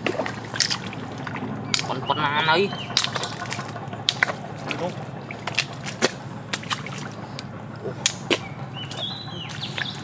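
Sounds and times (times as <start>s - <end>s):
hands and feet squelching in mud: 0.0s - 10.0s.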